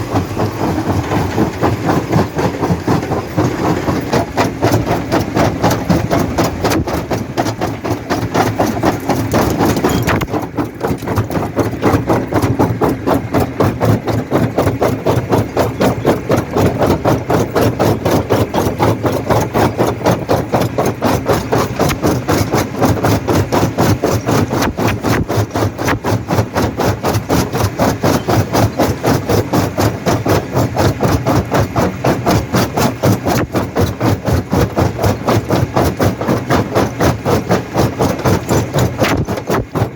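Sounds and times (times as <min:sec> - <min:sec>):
low machine hum: 0:00.0 - 0:39.9
rock crusher knocking: 0:00.0 - 0:39.9.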